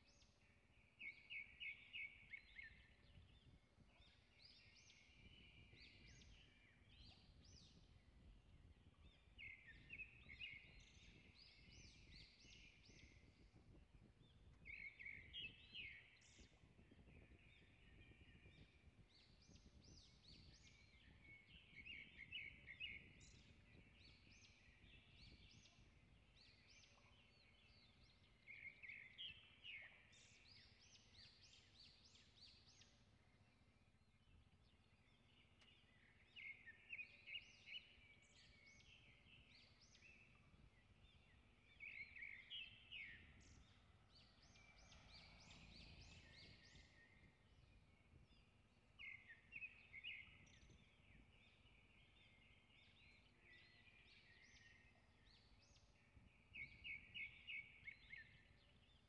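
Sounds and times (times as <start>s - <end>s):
faint birdsong chirping: 0.0s - 59.0s.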